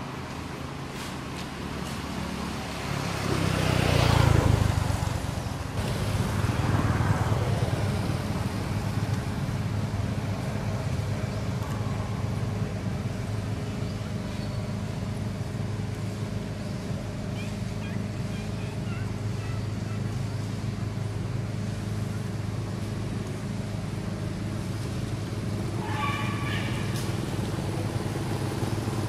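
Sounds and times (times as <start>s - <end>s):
low engine hum: 0.0s - 29.0s
motor vehicle passing by: 0.0s - 29.0s.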